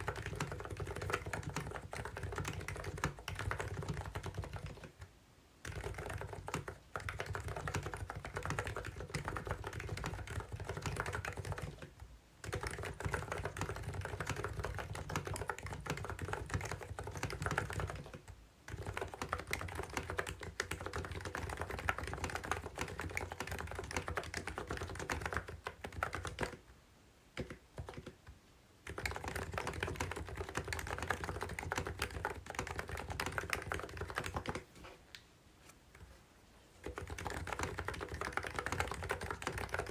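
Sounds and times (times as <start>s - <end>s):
fast keyboard typing: 0.0s - 5.0s, 5.6s - 26.6s, 27.4s - 28.2s, 28.8s - 34.7s, 36.8s - 39.9s.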